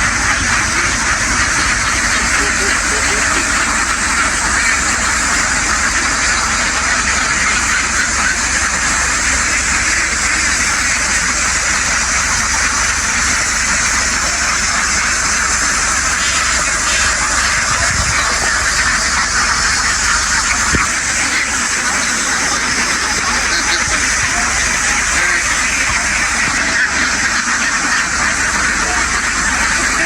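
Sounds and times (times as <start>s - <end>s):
flock of ducks quacking: 0.0s - 30.0s
steady low hum: 0.0s - 30.0s.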